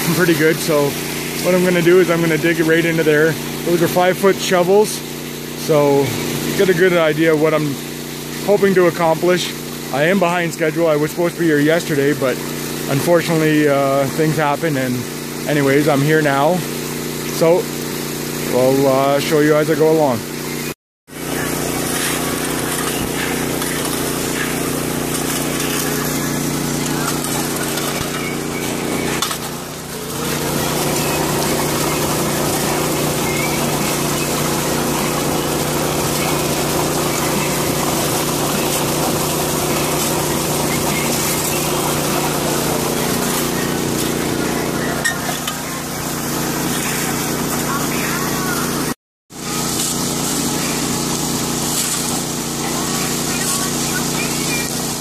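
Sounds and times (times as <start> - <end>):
gas-engine water pump running: 0.0 - 55.0
water rushing through sluice box: 0.0 - 55.0.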